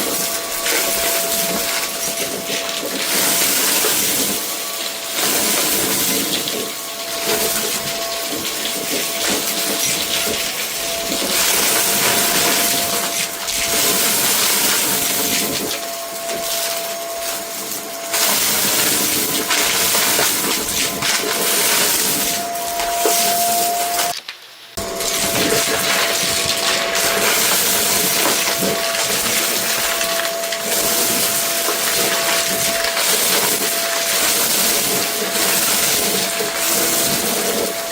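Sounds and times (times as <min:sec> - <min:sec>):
vacuum cleaner running: 0:00.0 - 0:24.2, 0:24.8 - 0:37.9.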